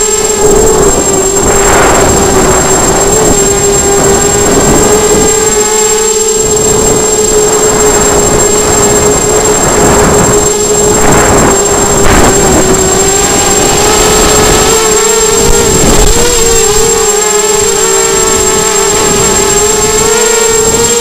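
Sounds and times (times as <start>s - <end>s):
rushing noise: 0.0s - 19.8s
quadcopter motors whining: 0.0s - 21.0s.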